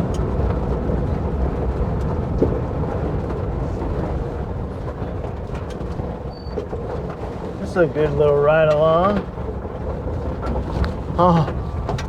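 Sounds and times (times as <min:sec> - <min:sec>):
engine low rumble: 0:00.0 - 0:12.0
light knocks and rattles: 0:00.0 - 0:12.0.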